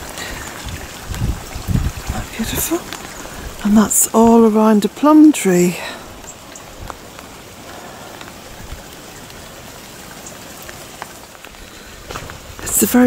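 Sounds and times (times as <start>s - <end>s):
rain and wind: 0.0s - 13.0s.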